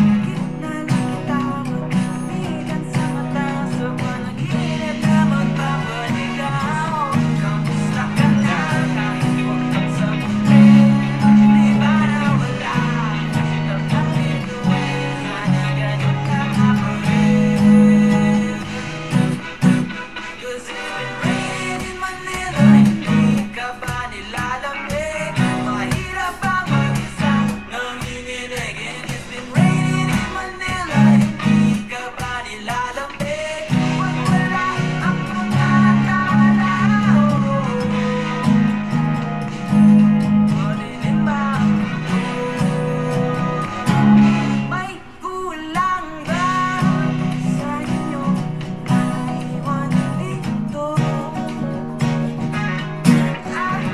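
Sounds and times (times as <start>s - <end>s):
acoustic guitar strumming chords: 0.0s - 53.9s
person singing: 0.0s - 53.9s.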